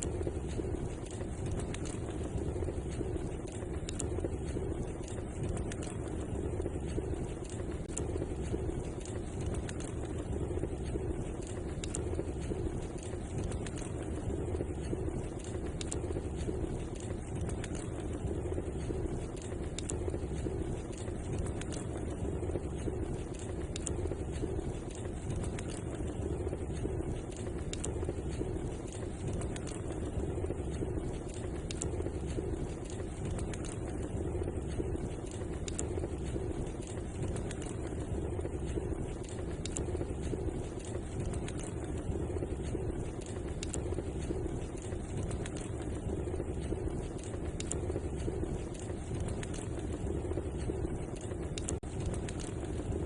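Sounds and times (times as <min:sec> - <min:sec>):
fire pops and snaps: 0:00.0 - 0:53.0
wood fire crackling: 0:00.0 - 0:53.0.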